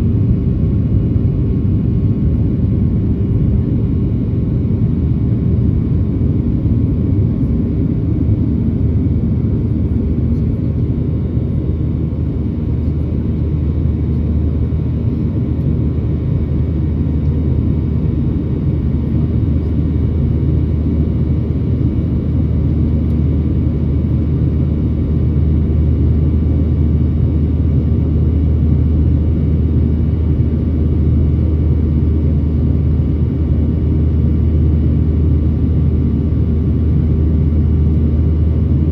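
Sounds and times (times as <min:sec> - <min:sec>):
jet engine drone: 0:00.0 - 0:38.9.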